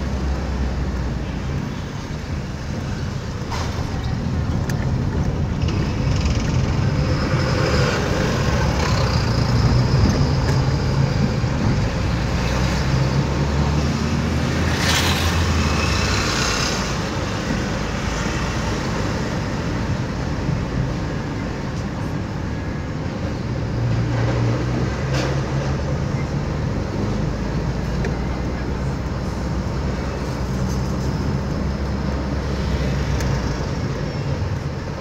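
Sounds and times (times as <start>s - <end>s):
car engine and tyre noise: 0.0s - 35.0s.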